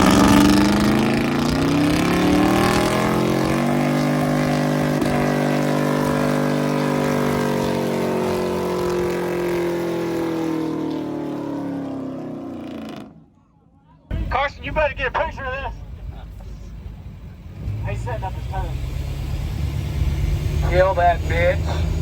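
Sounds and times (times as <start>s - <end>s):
truck engine revving: 0.0s - 13.4s, 14.1s - 22.0s.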